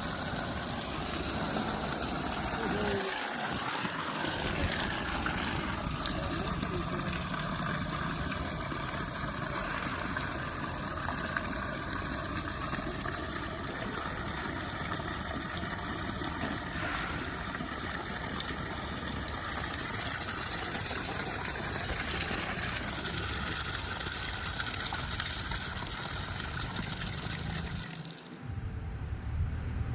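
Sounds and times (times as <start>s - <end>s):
fire pump running: 0.0s - 27.8s.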